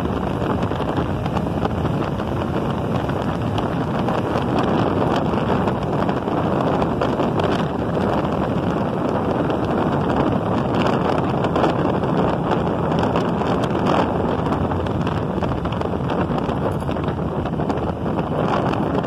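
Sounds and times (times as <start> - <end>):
motorcycle engine: 0.0 - 19.0
road noise: 0.0 - 19.0
wind rush on microphone: 0.0 - 19.0.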